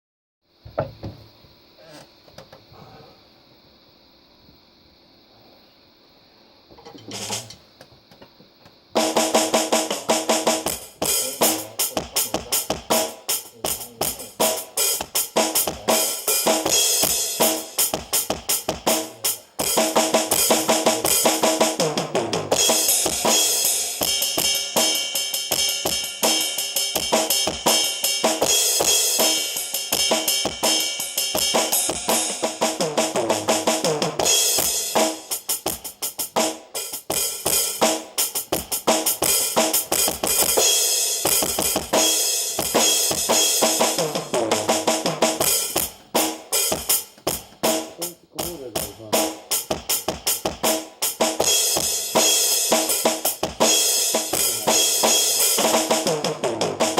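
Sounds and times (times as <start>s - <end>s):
drum kit playing: 7.0s - 7.6s, 8.9s - 56.9s.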